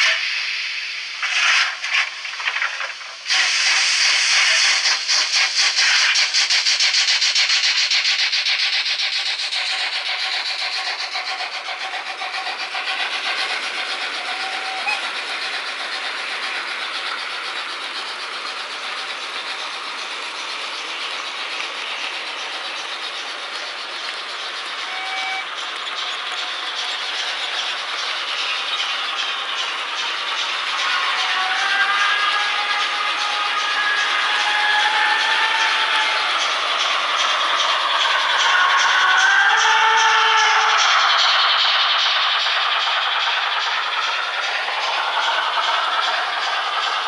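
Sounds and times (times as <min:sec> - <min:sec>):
model train running on track: 0:00.0 - 0:47.0
steam locomotive chuffs: 0:00.0 - 0:47.0.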